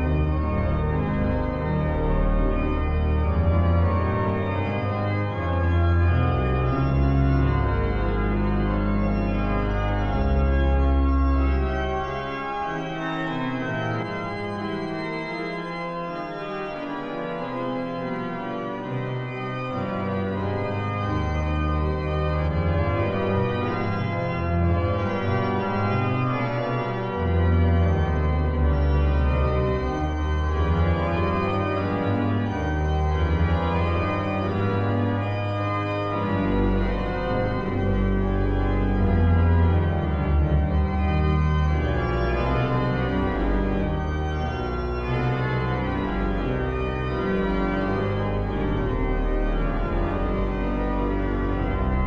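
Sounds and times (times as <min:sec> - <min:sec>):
deep organ pedal bass notes: 0:00.0 - 0:52.0
pipe organ chords: 0:00.0 - 0:52.0.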